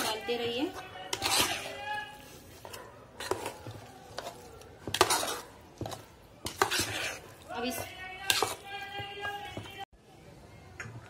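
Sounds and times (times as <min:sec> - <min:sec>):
metal spoon scraping metal pot: 0:00.0 - 0:02.4, 0:03.2 - 0:09.7.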